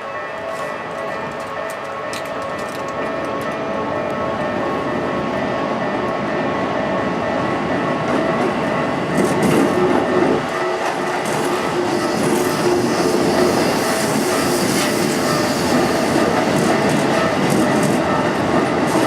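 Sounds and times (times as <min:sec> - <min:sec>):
electric train running past: 0:00.0 - 0:19.0.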